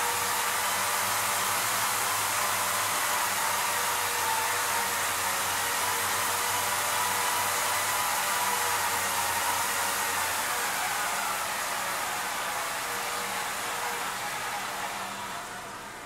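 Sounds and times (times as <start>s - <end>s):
camera rig motors running: 0.0s - 16.0s.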